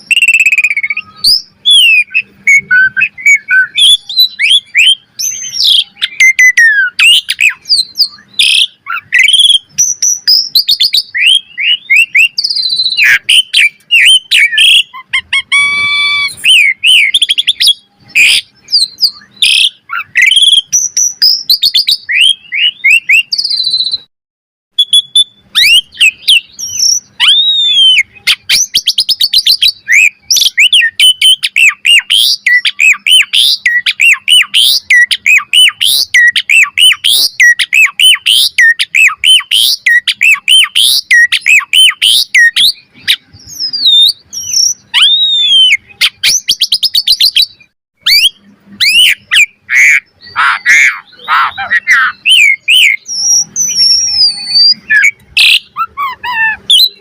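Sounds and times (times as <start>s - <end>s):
starling singing: 0.0s - 24.1s, 24.8s - 57.0s.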